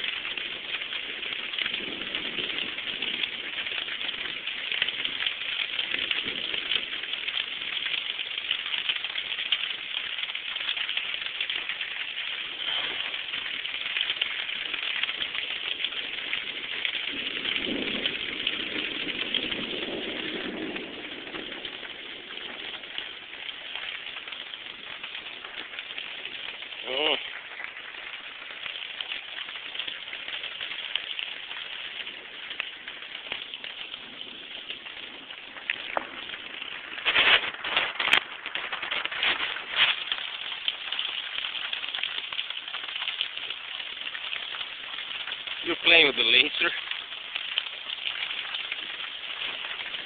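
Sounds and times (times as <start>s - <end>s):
rain falling: 0.0s - 50.0s.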